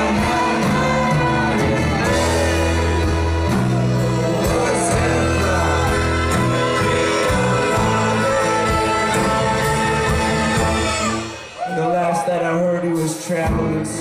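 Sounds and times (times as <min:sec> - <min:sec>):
voices singing: 0:00.0 - 0:11.6
live band playing: 0:00.0 - 0:14.0
low bass notes: 0:00.0 - 0:14.0.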